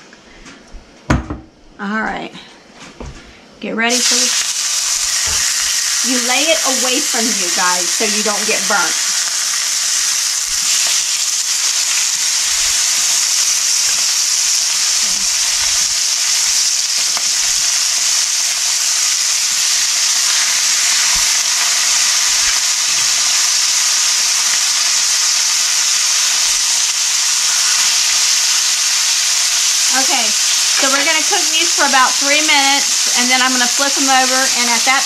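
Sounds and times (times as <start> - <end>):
steaks sizzling in a skillet: 3.9 - 35.0.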